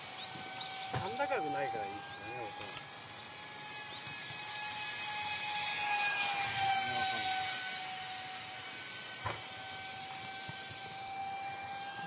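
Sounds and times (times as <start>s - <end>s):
model jet motor whine: 0.0s - 12.0s.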